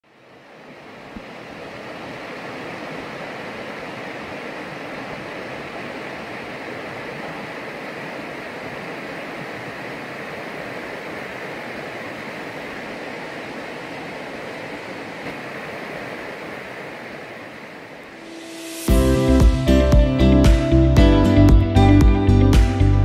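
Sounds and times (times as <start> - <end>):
river rushing over rocks: 0.1 - 19.0.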